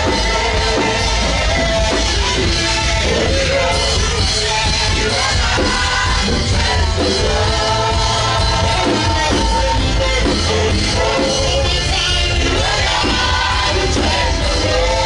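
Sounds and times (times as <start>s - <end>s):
heavy bass: 0.0s - 15.0s
live worship band music: 0.0s - 15.0s
voices singing: 0.0s - 15.0s.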